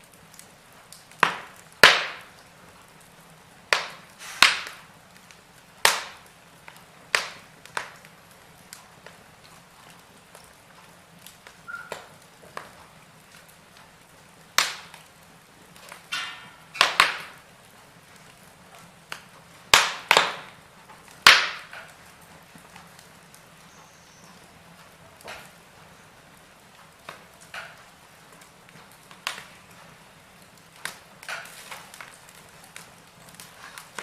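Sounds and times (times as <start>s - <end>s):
faint steady hiss: 0.0s - 34.0s
wood fire crackling: 0.0s - 34.0s.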